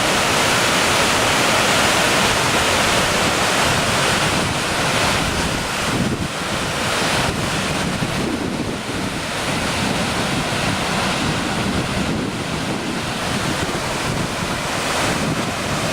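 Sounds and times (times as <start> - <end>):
waterfall rushing: 0.0 - 15.9
wind buffeting microphone: 2.2 - 15.9.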